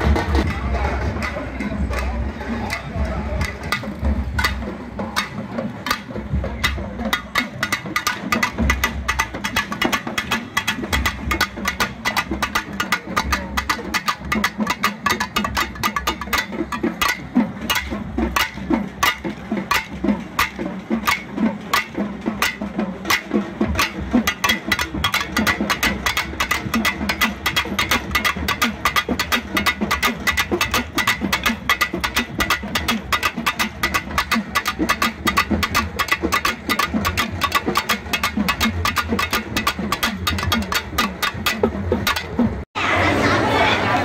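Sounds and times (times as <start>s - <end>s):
barrel drums beating: 0.0s - 42.6s.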